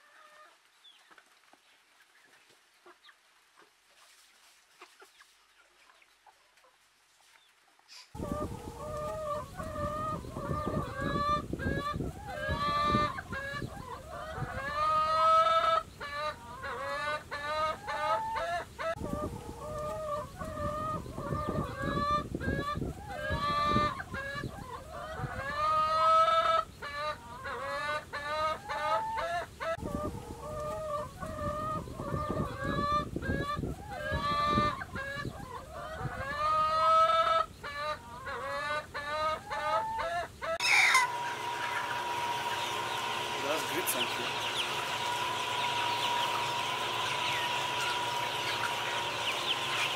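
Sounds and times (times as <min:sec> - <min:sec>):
hens clucking and cackling: 0:00.0 - 0:49.9.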